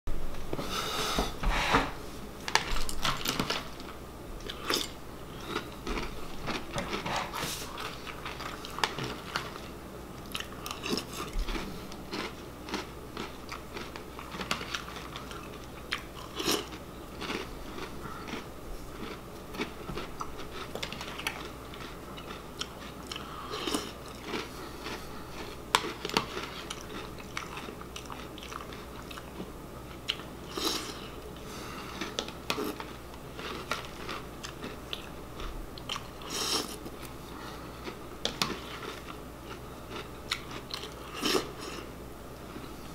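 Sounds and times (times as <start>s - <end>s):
person chewing crunchy cereal: 2.5s - 41.9s.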